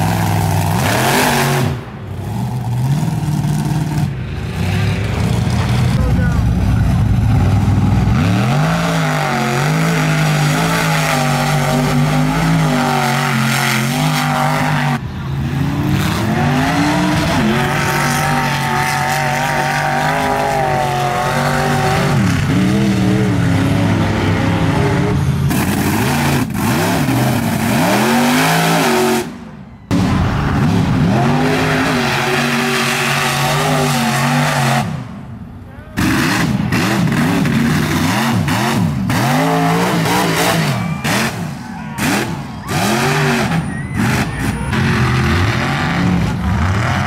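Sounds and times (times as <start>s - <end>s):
truck engines revving hard: 0.0s - 47.0s.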